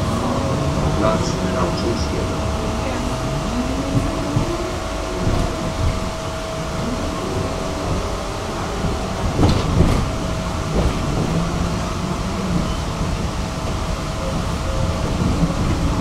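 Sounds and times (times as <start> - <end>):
tram rumbling on rails: 0.0 - 16.0
wheels knocking: 1.2 - 16.0.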